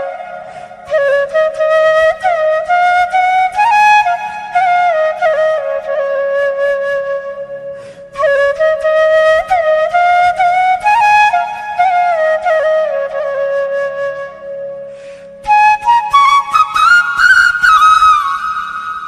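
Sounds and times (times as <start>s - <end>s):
flute-like wind melody: 0.0s - 19.0s.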